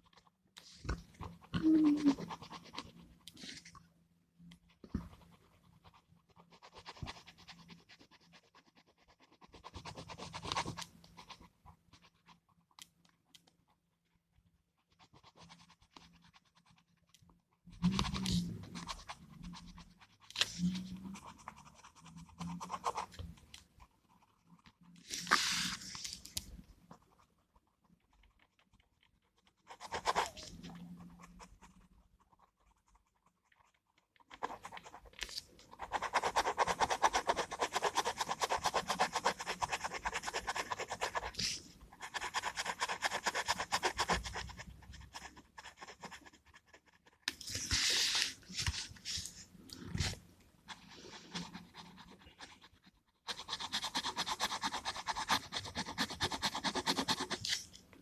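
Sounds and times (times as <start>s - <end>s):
gel pen scratching on paper: 0.0s - 3.8s, 4.7s - 13.4s, 14.6s - 57.8s.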